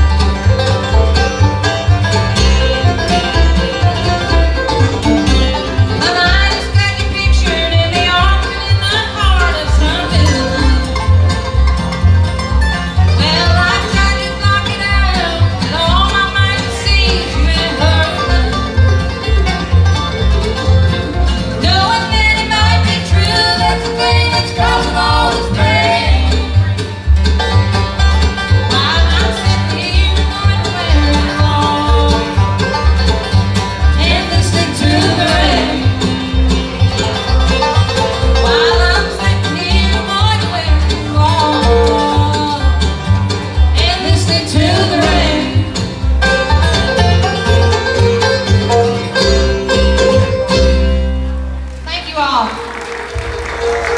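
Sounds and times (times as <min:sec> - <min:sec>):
guitar picking: 0:00.0 - 0:52.0
banjo picking: 0:00.0 - 0:53.9
fiddle melody: 0:00.0 - 0:53.9.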